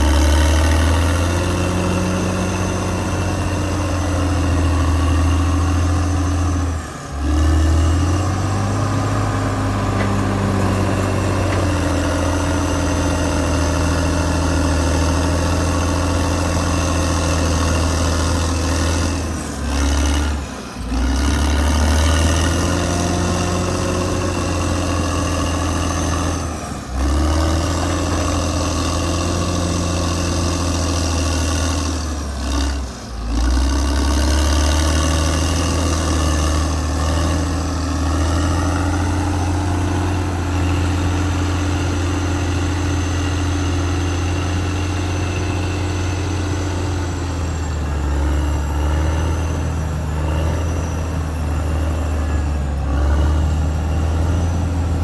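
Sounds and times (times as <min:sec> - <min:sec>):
bulldozer diesel engine humming: 0:00.0 - 0:55.0.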